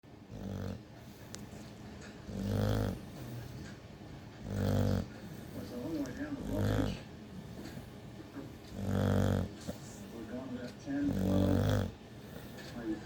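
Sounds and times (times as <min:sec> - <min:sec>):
dog snoring: 0:00.2 - 0:13.0.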